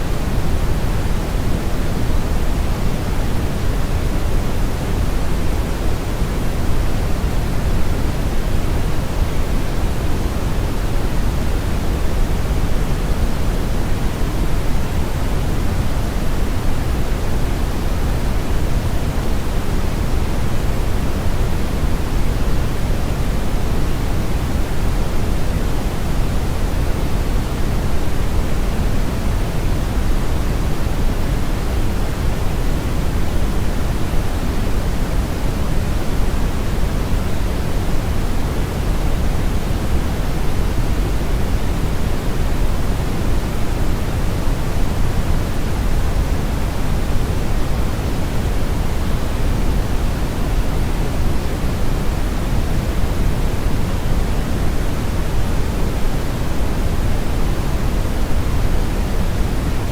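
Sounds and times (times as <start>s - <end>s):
steady low hiss noise: 0.0s - 59.9s.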